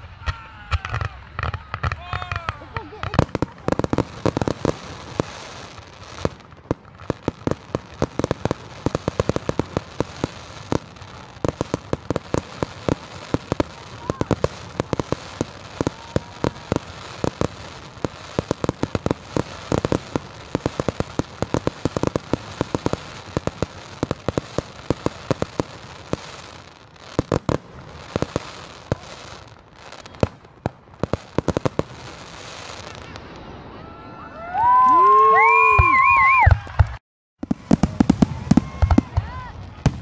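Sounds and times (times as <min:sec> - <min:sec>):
fireworks bangs: 0:00.0 - 0:40.0
fireworks crackling: 0:00.0 - 0:40.0.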